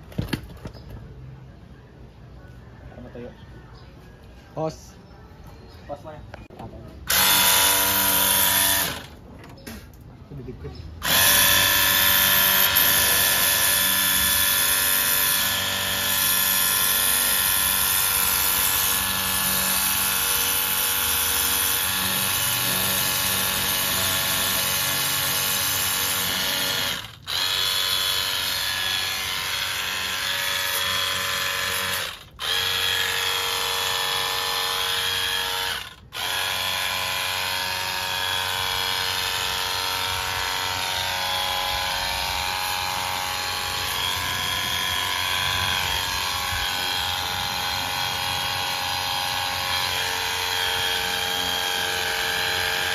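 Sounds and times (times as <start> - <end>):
electric power tool running: 7.1 - 9.2, 11.0 - 52.9.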